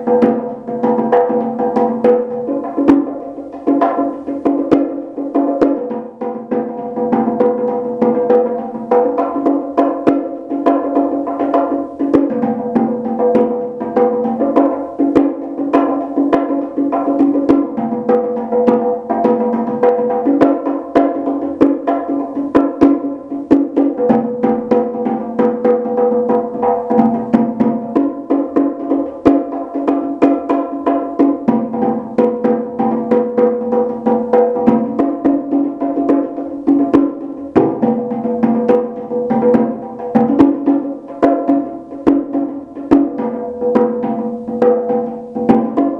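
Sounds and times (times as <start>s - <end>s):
bongo drums played by hand: 0.0s - 45.9s.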